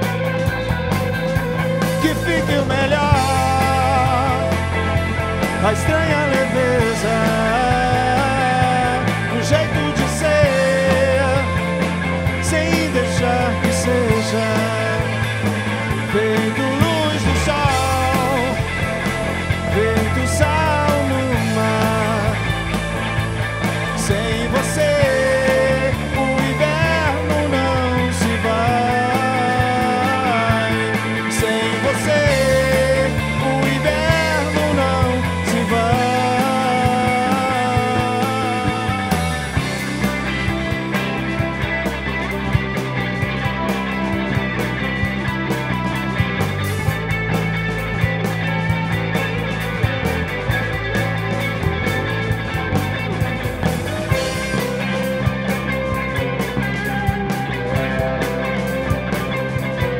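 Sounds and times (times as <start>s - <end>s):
bass guitar: 0.0s - 59.9s
drum kit: 0.0s - 59.9s
electric guitar lead: 0.0s - 59.9s
rock band playing: 0.0s - 59.9s.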